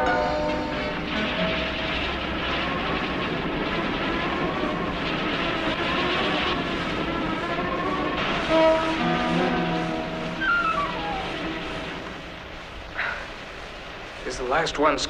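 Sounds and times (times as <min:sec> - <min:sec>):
faint music: 0:00.0 - 0:15.0
steady rushing noise: 0:00.0 - 0:15.0.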